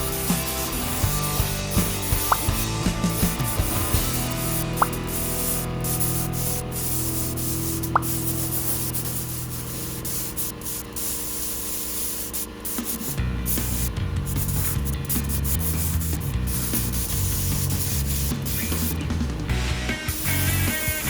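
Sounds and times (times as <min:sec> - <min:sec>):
background music: 0:00.0 - 0:09.5, 0:13.2 - 0:21.0
sandpaper rubbing on metal panel: 0:00.0 - 0:19.1.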